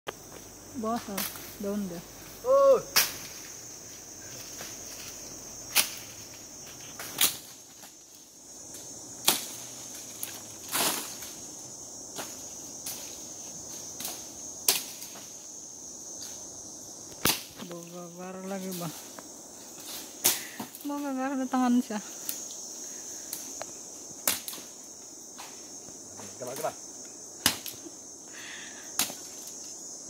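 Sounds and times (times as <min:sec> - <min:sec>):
insects droning: 0:00.1 - 0:30.0.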